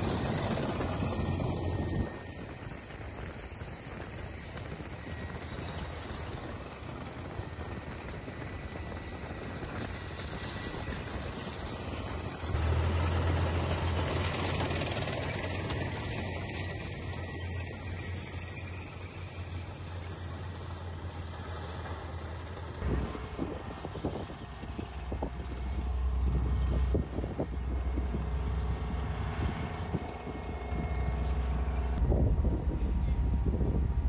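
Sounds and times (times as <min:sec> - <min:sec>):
tank engines rumbling: 0:00.0 - 0:34.0.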